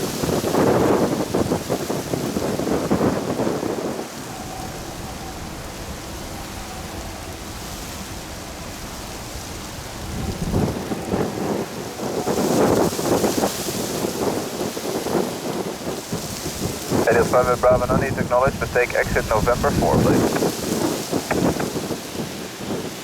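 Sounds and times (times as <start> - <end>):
gusty wind buffeting microphone: 0.0 - 23.0.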